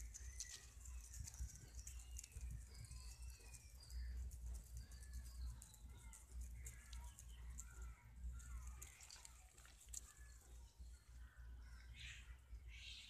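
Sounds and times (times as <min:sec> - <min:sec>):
steady low rumble: 0:00.0 - 0:12.9
bird chirps and calls: 0:00.0 - 0:13.0.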